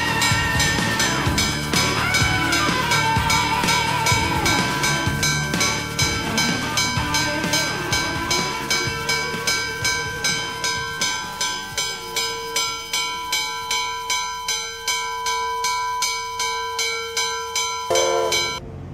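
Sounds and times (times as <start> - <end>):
locomotive bell ringing: 0.0 - 18.6.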